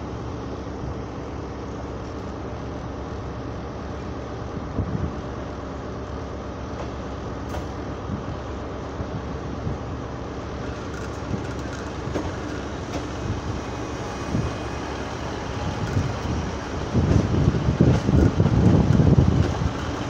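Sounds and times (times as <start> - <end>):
diesel train rumbling past: 0.0 - 20.0.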